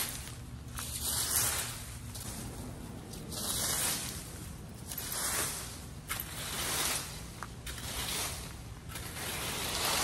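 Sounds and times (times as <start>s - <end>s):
rake sweeping through dry leaves: 0.0s - 10.0s.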